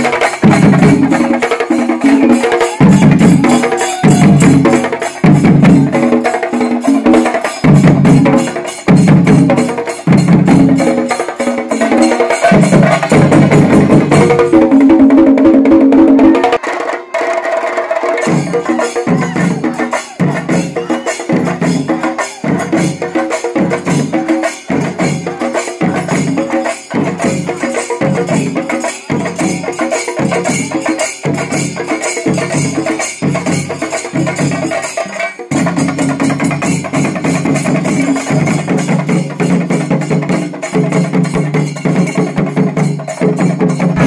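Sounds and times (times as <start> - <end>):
drums struck in a steady beat: 0.0 - 44.0.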